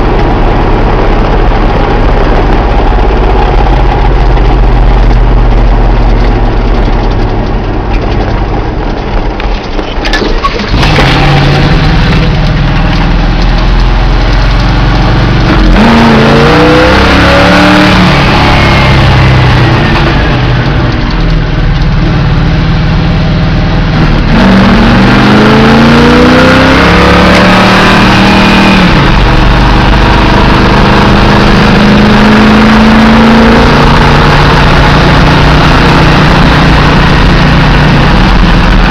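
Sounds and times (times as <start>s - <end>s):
truck engine revving: 0.0s - 9.4s, 10.5s - 38.9s.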